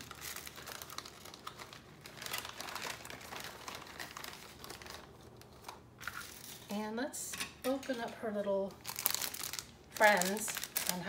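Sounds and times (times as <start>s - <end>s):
plastic packaging crinkling: 0.0s - 6.7s, 8.8s - 11.0s.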